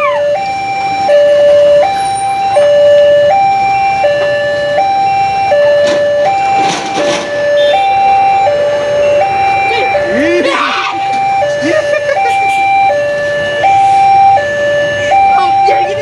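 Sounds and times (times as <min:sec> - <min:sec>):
level crossing alarm: 0:00.0 - 0:16.0.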